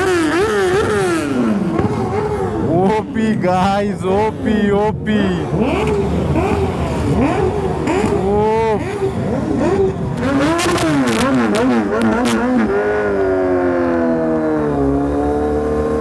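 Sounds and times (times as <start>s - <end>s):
exhaust pops: 0.0s - 13.4s
motorcycle engine revving: 0.0s - 16.0s.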